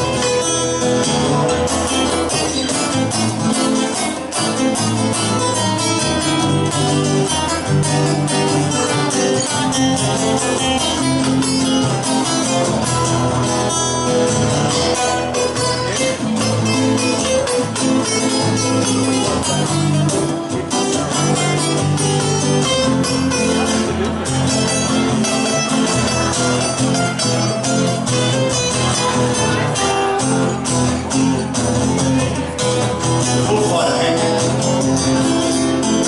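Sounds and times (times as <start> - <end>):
lead guitar picking quick runs: 0.0 - 36.0
rhythm guitar strumming chords: 0.0 - 36.0.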